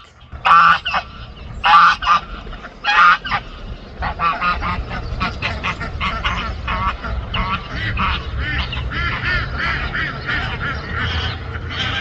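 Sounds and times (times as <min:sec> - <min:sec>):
waterfowl calling loudly: 0:00.0 - 0:12.0.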